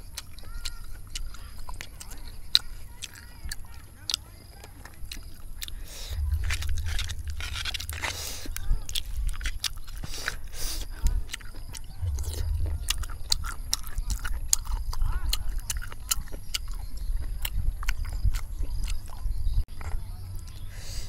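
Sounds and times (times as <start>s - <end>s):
chewing and biting: 0.0s - 20.8s.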